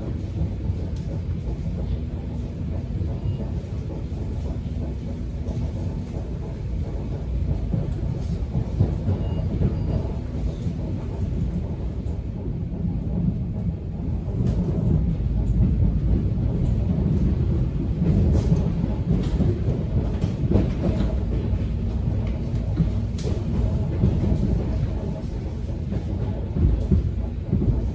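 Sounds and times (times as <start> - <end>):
subway train rumbling: 0.0 - 27.9.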